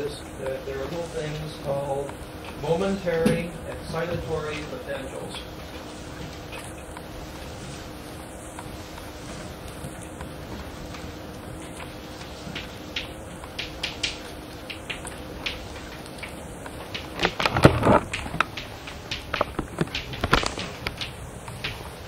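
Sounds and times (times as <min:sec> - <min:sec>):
cassette tape hiss: 0:00.0 - 0:22.0.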